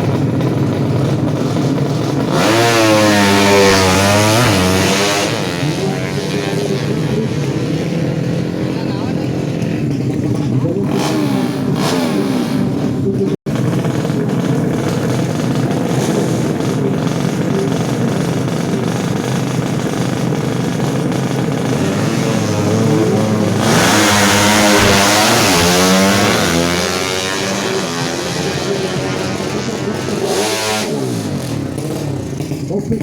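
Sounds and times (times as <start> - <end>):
motorcycle accelerating through gears: 0.0 - 33.0
motorcycles revving hard: 0.0 - 33.0.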